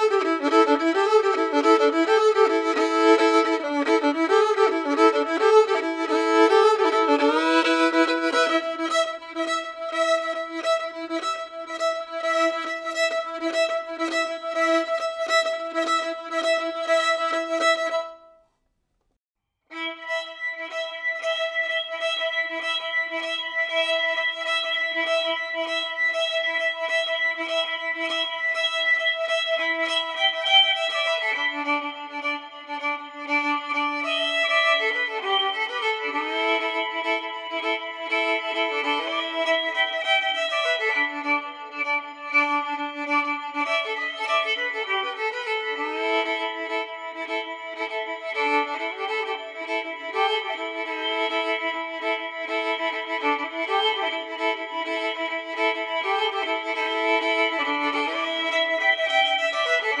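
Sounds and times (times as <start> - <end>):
violin playing held notes: 0.0 - 18.3, 19.7 - 60.0.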